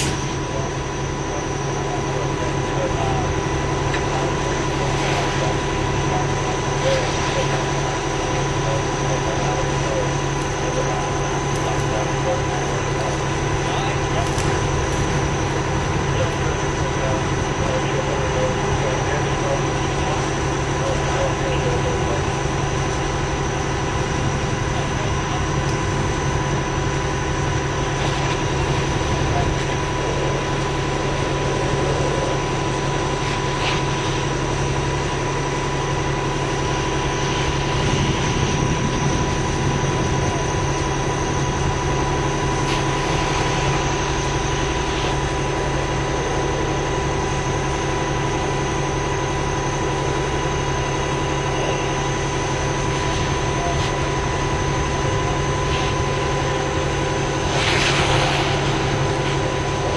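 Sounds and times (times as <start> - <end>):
heavy engine idling: 0.0 - 59.9.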